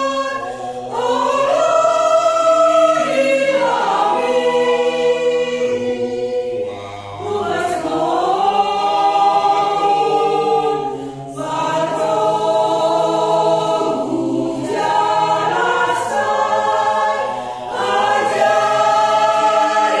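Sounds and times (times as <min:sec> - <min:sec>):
mixed choir singing in harmony: 0:00.0 - 0:20.0.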